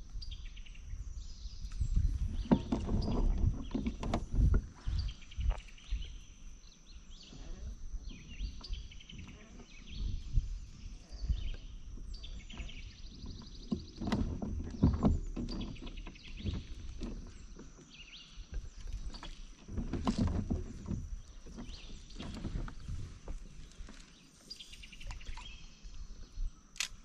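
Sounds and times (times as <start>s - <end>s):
small birds chirping: 0.2s - 27.0s.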